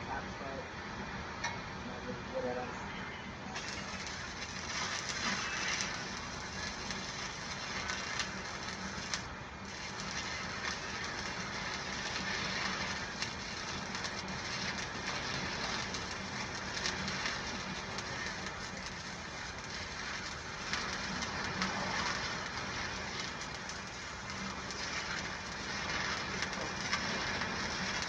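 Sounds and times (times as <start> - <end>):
welding arc crackling: 3.4 - 28.0.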